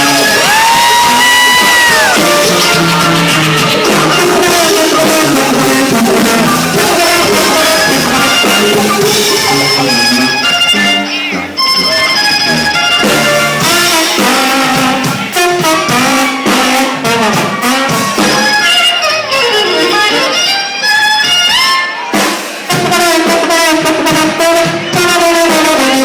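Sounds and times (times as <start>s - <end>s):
jazz with brass and saxophone: 0.0s - 26.0s.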